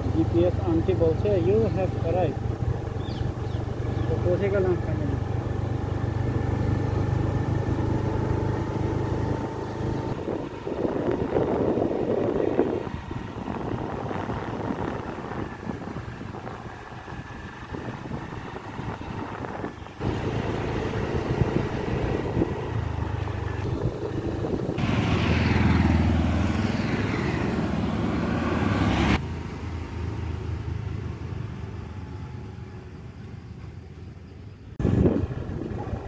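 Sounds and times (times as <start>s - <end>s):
motorbike engine and wind noise: 0.0s - 29.2s, 30.1s - 36.0s
scooter passing close by: 0.0s - 33.3s
distant motorbike approaching: 0.0s - 36.0s
road sound: 0.0s - 36.0s.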